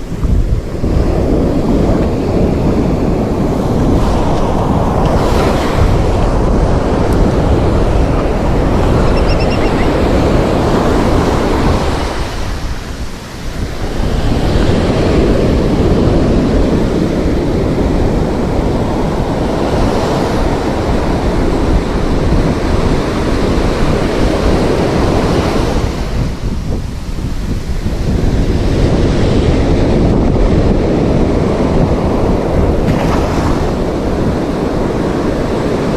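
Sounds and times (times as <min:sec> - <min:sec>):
ocean surf breaking: 0:00.0 - 0:26.5, 0:27.6 - 0:35.9
wind buffeting microphone: 0:00.0 - 0:35.9.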